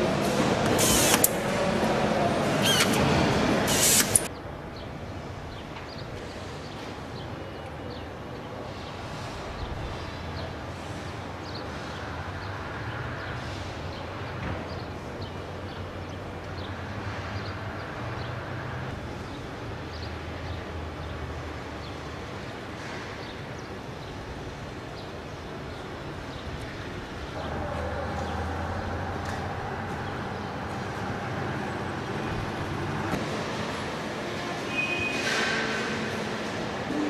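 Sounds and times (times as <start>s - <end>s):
machinery hum: 0.0s - 37.0s.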